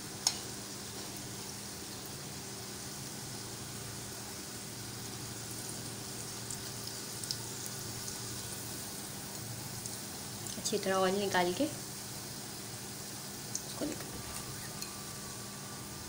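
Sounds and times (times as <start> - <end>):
oil frying chicken: 0.0 - 16.0.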